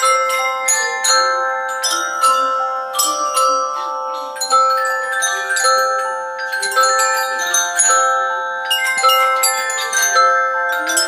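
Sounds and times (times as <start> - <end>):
mallet instruments ringing notes: 0.0 - 11.0.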